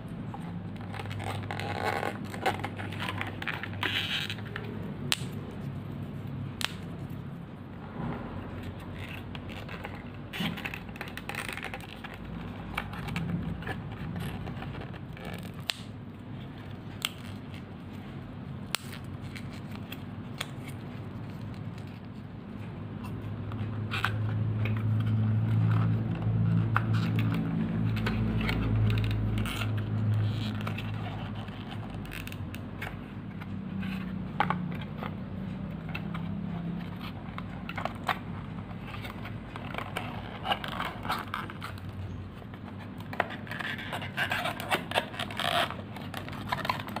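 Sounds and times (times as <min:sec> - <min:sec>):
card pieces rubbing and clicking: 0:00.3 - 0:07.4, 0:08.0 - 0:47.0.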